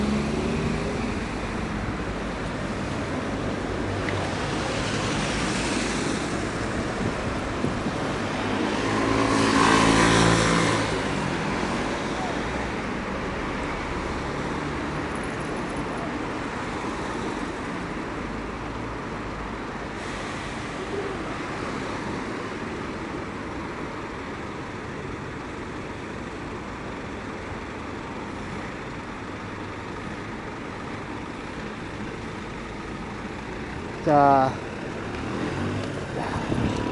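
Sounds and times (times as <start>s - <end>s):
road traffic hiss: 0.0s - 36.9s.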